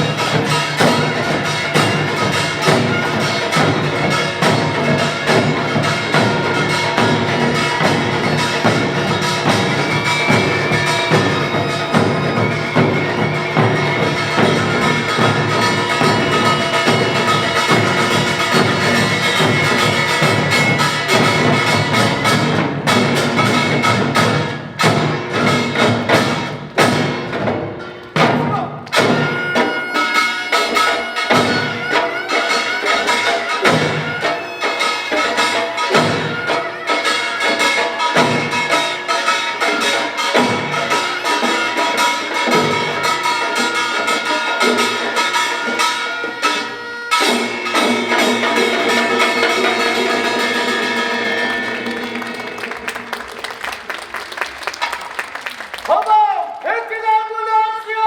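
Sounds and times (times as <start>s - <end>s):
percussion band drums and gongs: 0.0s - 57.2s.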